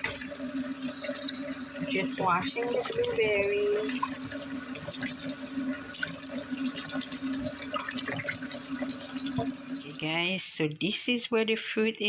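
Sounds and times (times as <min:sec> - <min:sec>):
tap water splashing: 0:00.0 - 0:10.0.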